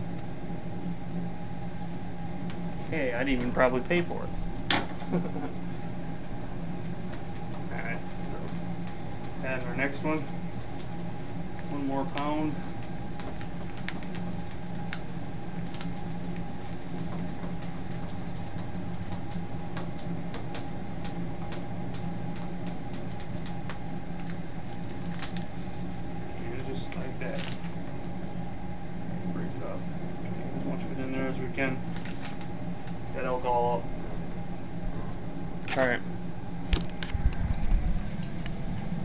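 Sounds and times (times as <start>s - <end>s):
cricket chirping: 0.0s - 39.0s
propane burner running: 0.0s - 39.0s.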